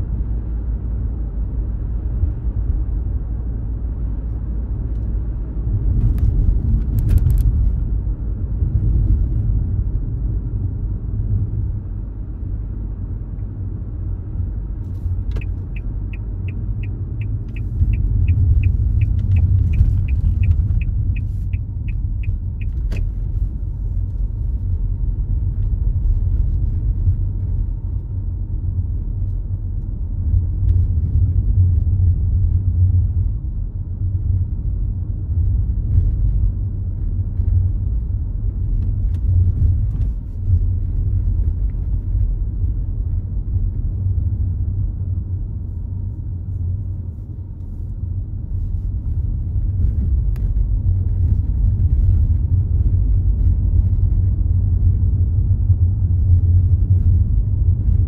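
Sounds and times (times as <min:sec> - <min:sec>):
car interior road and engine noise: 0:00.0 - 0:58.0.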